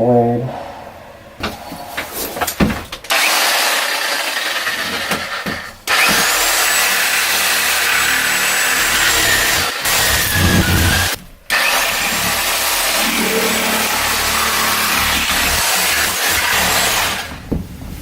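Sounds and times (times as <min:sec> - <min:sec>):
power saw cutting: 0:02.3 - 0:17.3.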